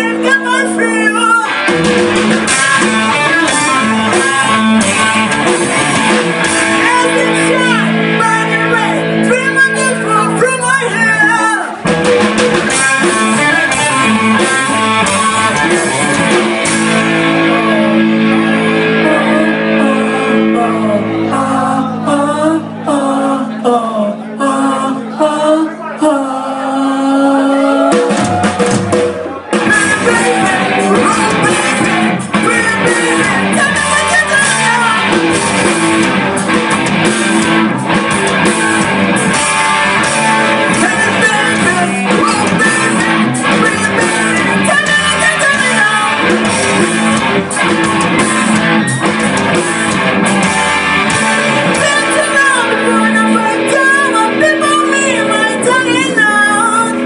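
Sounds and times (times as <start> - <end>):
person singing: 0.0 - 11.8, 12.4 - 28.7, 29.6 - 36.8, 38.3 - 49.9, 51.0 - 57.0
rock band playing: 0.0 - 23.8, 27.5 - 57.0
electric guitar: 0.0 - 25.3, 27.5 - 57.0.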